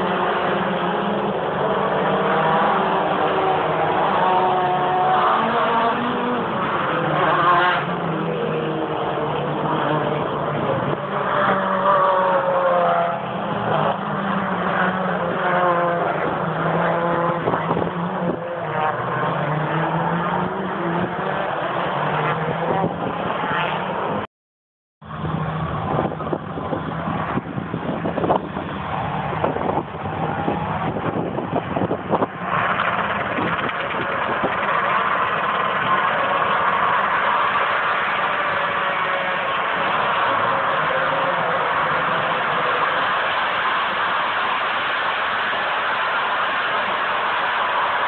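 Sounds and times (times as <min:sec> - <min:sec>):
race cars passing at speed: 0:00.0 - 0:24.3, 0:25.0 - 0:48.0.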